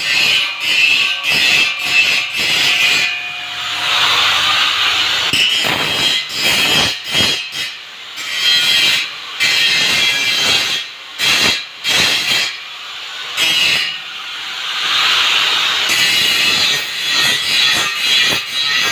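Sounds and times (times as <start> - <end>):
angle grinder grinding steel: 0.0 - 12.6, 13.3 - 18.9.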